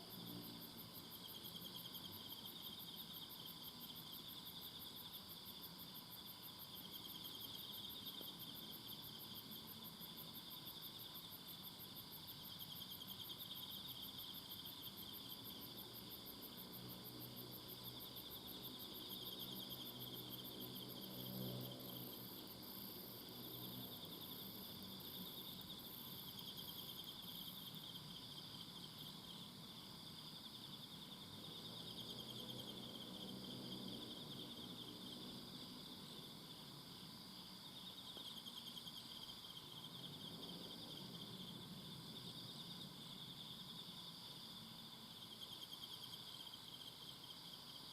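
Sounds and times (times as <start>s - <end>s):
high pulsing insect trill: 0.0s - 47.9s.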